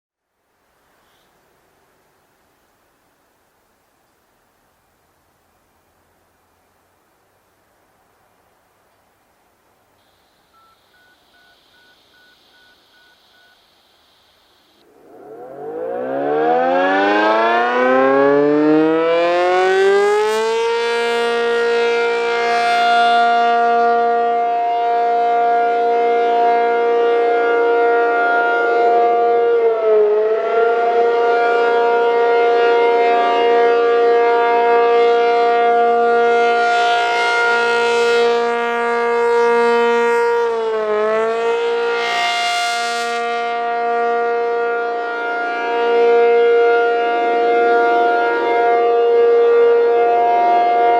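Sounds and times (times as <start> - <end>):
warning siren steady tone: 10.0 - 50.9.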